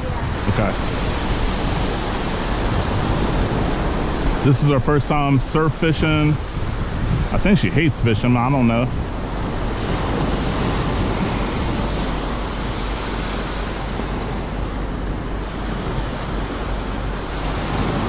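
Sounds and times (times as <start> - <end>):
surf washing on beach: 0.0 - 18.0
wind on microphone: 0.0 - 18.0.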